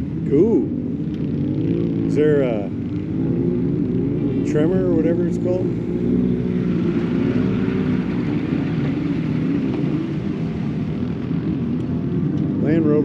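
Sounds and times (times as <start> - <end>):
truck engines driving past: 0.0 - 13.0.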